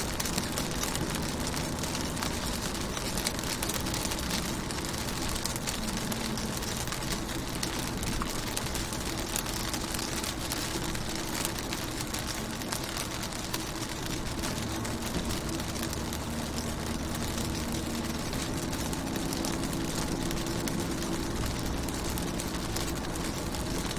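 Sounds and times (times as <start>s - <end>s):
rain on car window: 0.0s - 23.9s.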